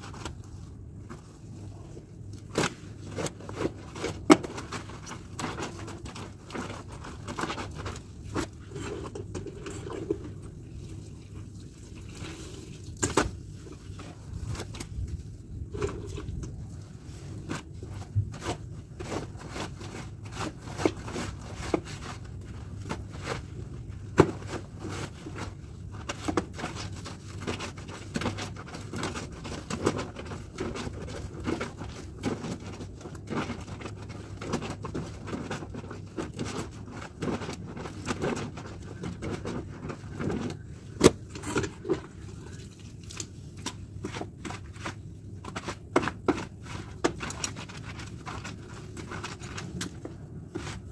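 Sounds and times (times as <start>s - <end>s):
brush scrubbing wet clothes: 0.0s - 50.9s.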